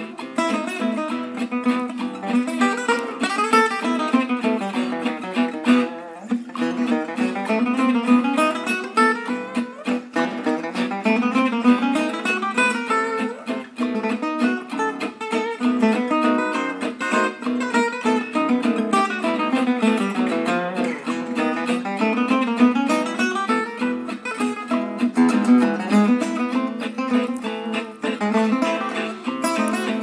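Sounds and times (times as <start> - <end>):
acoustic guitar plucking: 0.0 - 30.0.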